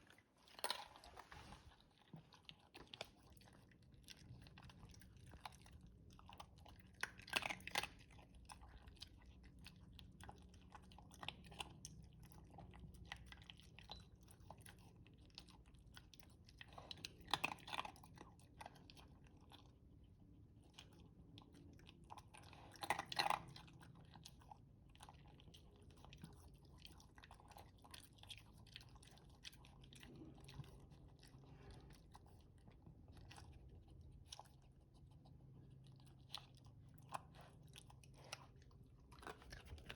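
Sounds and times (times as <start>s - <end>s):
dog chewing and crunching food: 0.0s - 39.9s.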